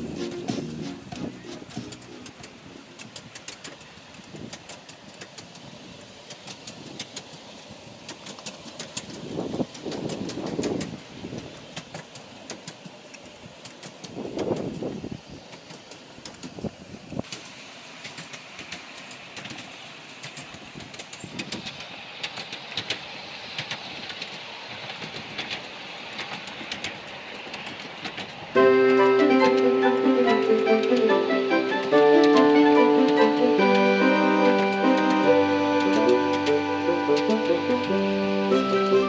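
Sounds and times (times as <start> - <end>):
miniature train rumbling on track: 0.0 - 39.0
wheels clicking on rails: 0.0 - 39.0.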